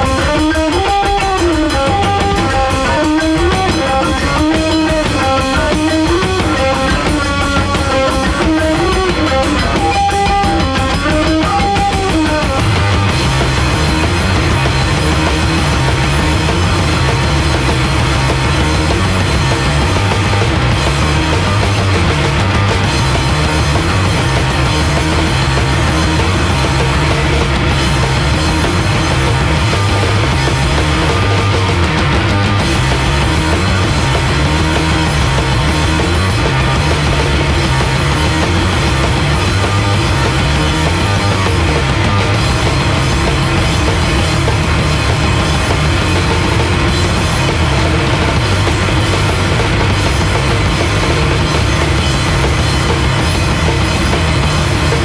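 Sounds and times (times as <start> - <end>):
distorted bass guitar riff: 0.0 - 55.0
fast drumming: 0.0 - 55.0.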